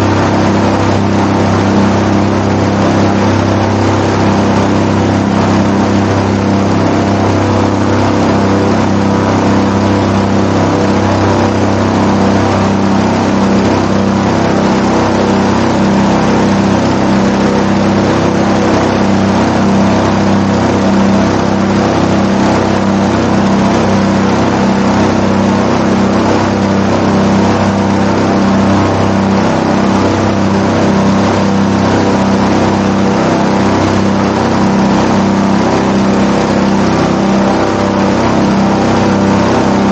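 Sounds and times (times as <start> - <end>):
airboat engine and propeller droning: 0.0 - 39.9.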